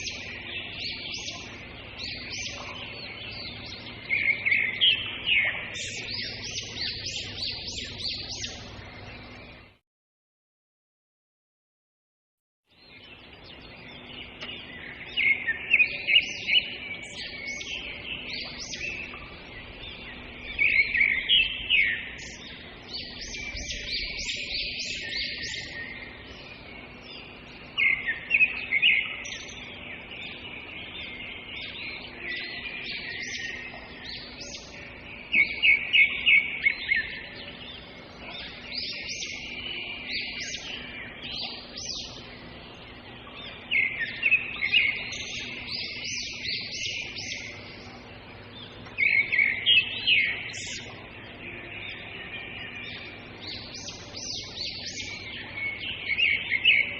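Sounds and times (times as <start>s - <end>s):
birds chirping and singing: 0.0s - 9.7s, 12.7s - 56.9s.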